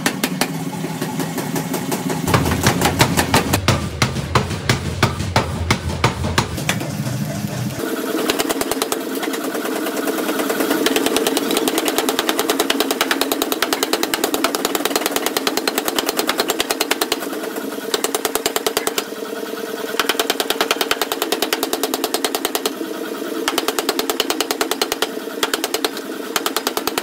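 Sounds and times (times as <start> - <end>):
forging hammer pounding: 0.0 - 19.2, 19.9 - 22.8, 23.4 - 27.0
machine hum: 0.0 - 27.0.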